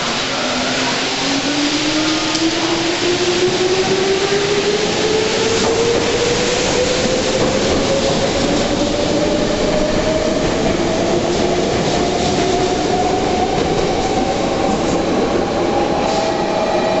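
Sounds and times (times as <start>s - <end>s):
electric train accelerating: 0.0s - 17.0s.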